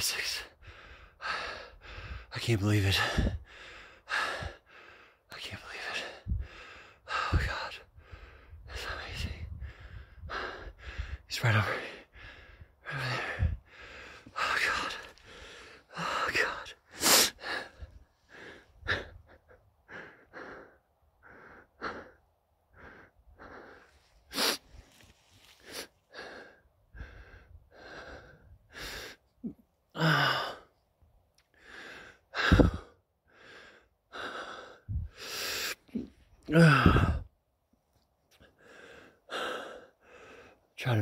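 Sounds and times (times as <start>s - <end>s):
man breathing heavily: 0.0s - 30.8s, 31.4s - 37.4s, 38.3s - 41.0s.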